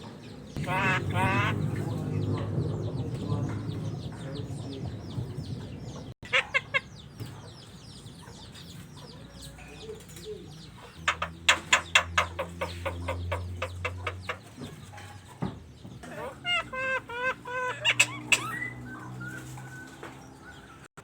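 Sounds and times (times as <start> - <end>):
starling chirping and clucking: 0.0 - 20.9.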